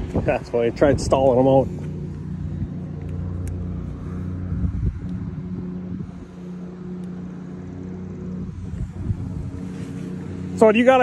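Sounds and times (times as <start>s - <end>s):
mower engine humming: 0.0s - 11.0s.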